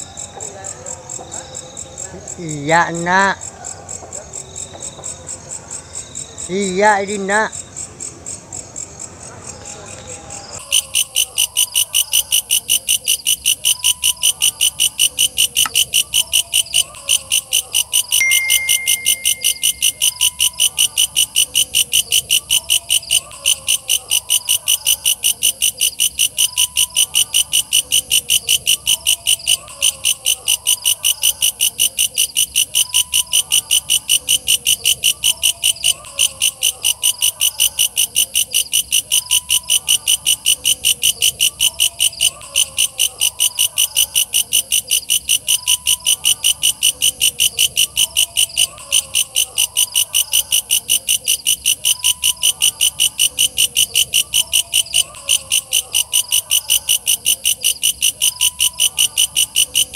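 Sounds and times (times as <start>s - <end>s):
chorus of night calls: 8.5s - 59.9s.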